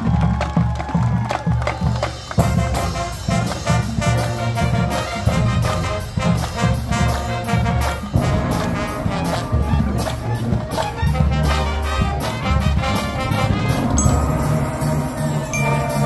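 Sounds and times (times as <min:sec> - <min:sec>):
marching band playing: 0:00.0 - 0:16.0
drum and cymbal strokes: 0:02.2 - 0:16.0.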